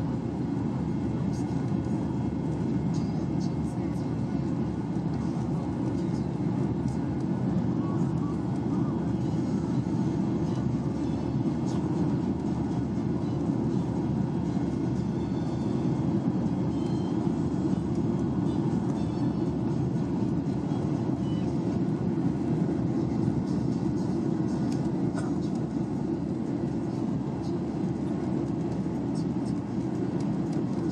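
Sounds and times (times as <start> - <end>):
airplane cabin rumble: 0.0 - 30.9.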